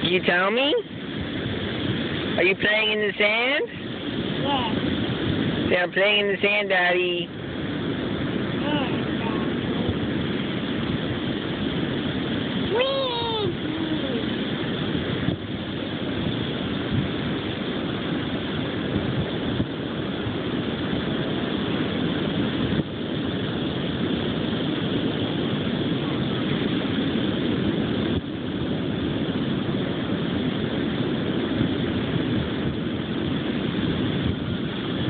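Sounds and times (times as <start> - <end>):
surf: 0.0 - 35.0
wind on microphone: 0.0 - 35.0.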